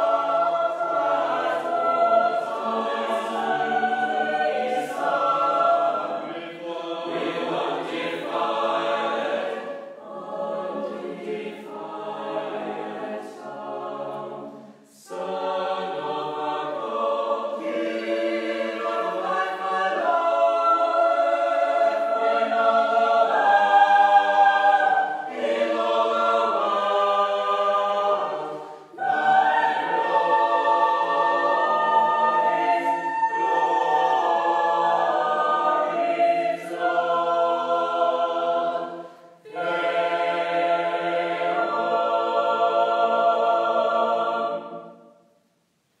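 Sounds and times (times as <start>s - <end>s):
mixed choir singing: 0.0s - 45.3s.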